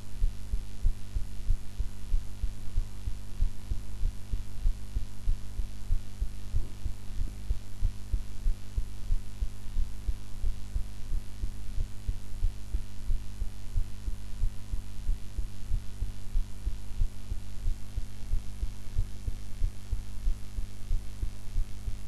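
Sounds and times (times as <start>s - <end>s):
heartbeat thumps: 0.0s - 22.0s
steady hum: 0.0s - 22.0s.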